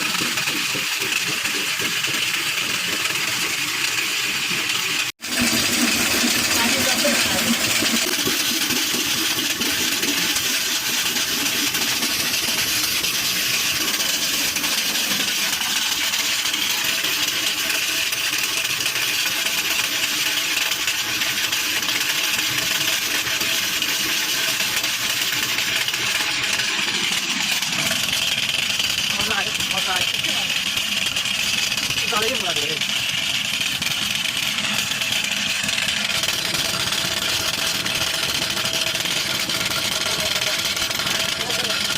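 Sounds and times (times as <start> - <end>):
mill mechanical rattle: 0.0 - 41.9.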